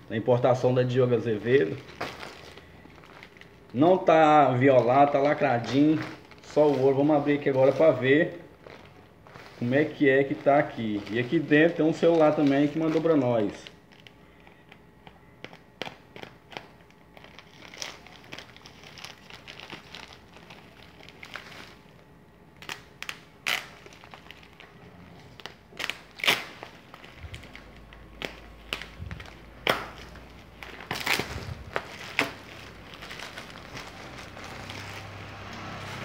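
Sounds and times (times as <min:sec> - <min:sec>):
plastic wrapping crinkling and ripping: 0:00.0 - 0:36.0.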